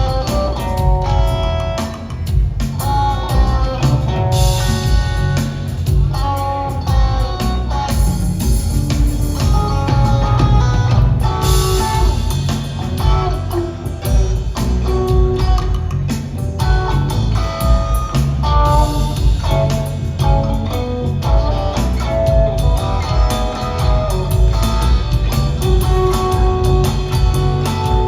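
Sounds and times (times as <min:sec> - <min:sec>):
bass guitar: 0:00.0 - 0:28.0
drum kit beat: 0:00.0 - 0:28.0
electric guitar: 0:00.0 - 0:28.0.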